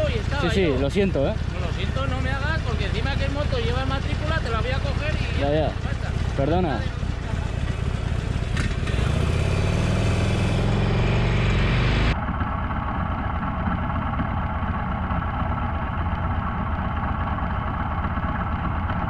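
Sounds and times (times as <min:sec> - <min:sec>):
idling traffic rumble: 0:00.0 - 0:19.0
motorcycle engine running: 0:00.0 - 0:19.0.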